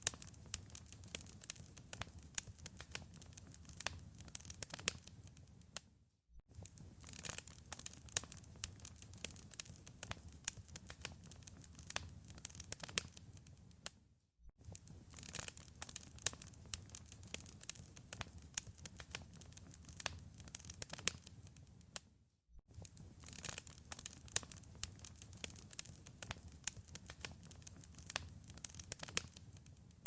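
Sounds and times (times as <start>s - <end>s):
wood fire crackling: 0.0s - 5.8s, 6.5s - 14.0s, 14.6s - 22.0s, 22.7s - 30.0s.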